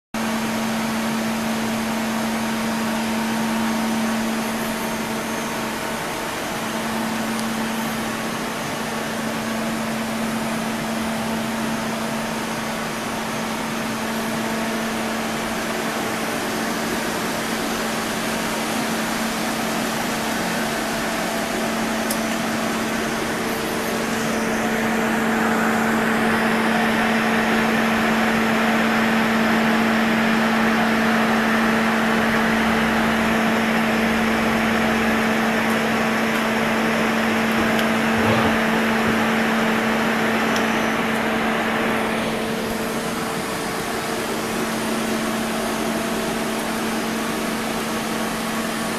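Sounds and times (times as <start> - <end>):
lathe machine hum: 0.2 - 48.9.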